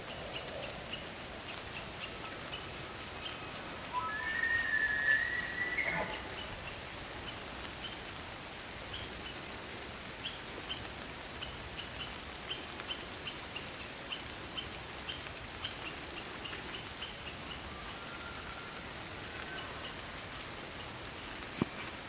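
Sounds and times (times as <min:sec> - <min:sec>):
rain and wind hiss: 0:00.0 - 0:22.0.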